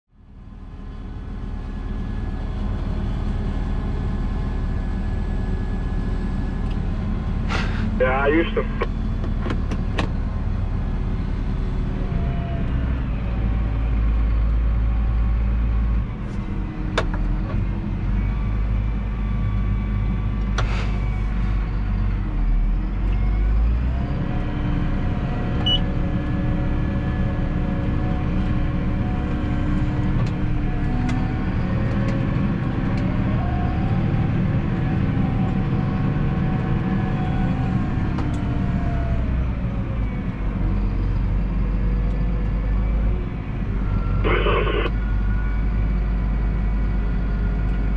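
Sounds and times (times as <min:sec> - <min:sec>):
tractor diesel engine rumble: 0:00.2 - 0:47.9.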